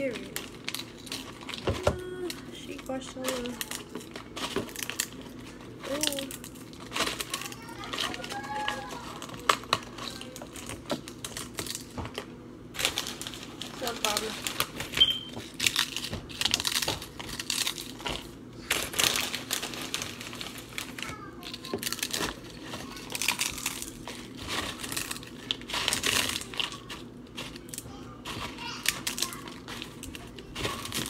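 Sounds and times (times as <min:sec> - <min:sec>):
crinkling and crunching: 0:00.0 - 0:31.0.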